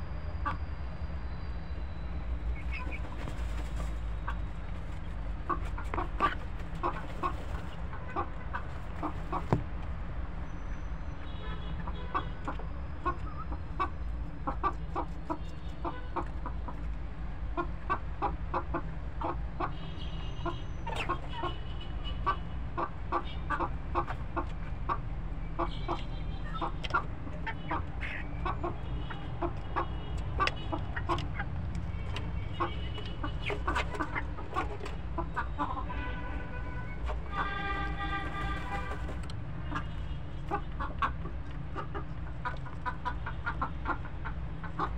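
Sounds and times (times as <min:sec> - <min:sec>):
chickens clucking: 0:02.4 - 0:09.8, 0:11.8 - 0:19.8, 0:20.4 - 0:21.6, 0:22.2 - 0:44.9.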